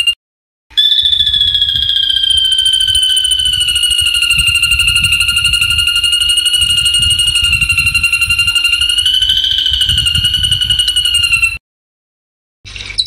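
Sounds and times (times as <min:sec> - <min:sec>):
songbird buzzy trill: 0:00.8 - 0:11.6.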